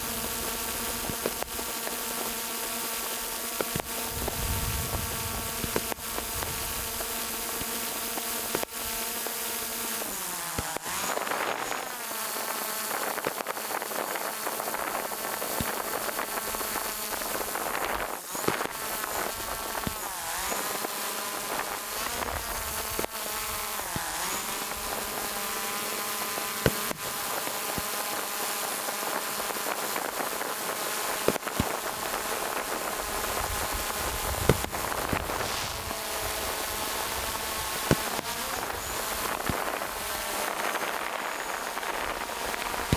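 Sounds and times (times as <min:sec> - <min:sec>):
drone propellers whining: 0:00.0 - 0:11.9, 0:14.6 - 0:42.9.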